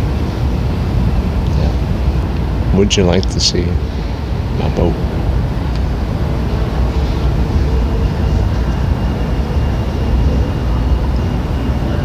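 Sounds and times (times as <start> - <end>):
faint steady tones: 0.0 - 12.0
low rumbling noise: 0.0 - 12.0.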